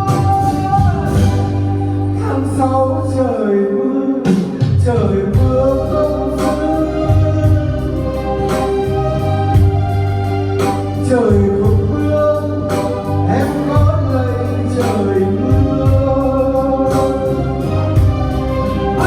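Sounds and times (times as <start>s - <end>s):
ballad melody notes: 0.0s - 19.0s
steady bass line: 0.0s - 19.0s.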